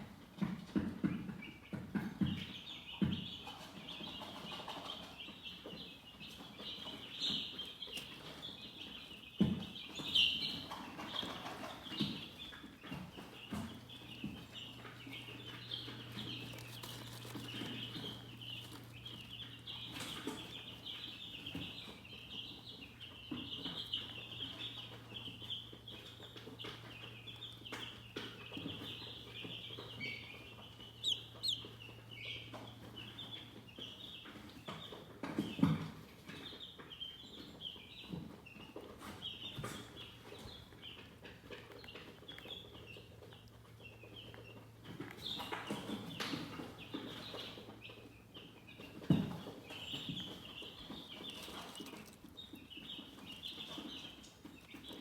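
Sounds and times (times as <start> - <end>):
chickens chirping: 0.0 - 55.0.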